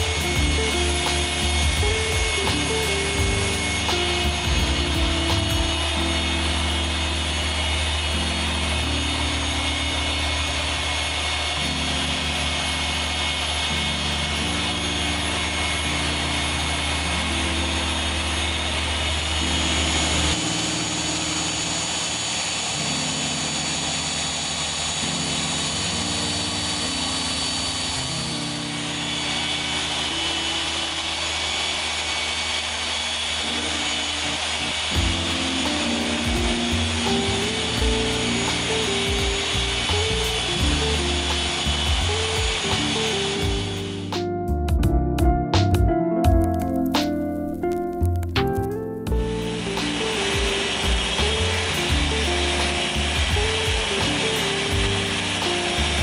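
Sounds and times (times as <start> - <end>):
background music: 0.0 - 32.7, 33.6 - 56.0
orbital polisher running: 0.0 - 44.3, 49.0 - 56.0.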